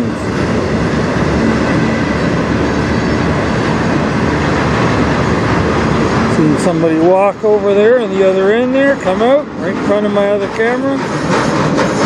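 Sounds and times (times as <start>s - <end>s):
train wheels rolling on rail: 0.0s - 12.0s.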